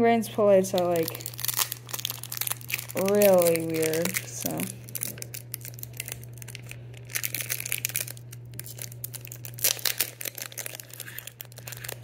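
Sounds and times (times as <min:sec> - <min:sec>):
steady low hum: 0:00.0 - 0:12.0
foil wrapper crinkling: 0:00.6 - 0:12.0.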